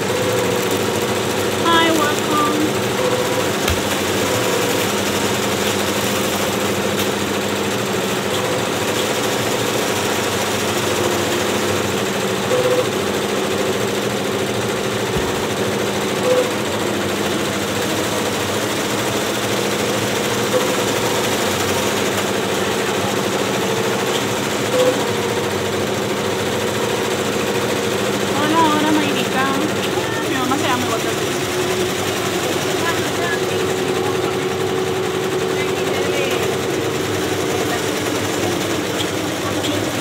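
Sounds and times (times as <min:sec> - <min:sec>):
embroidery machines clattering: 0:00.0 - 0:40.0.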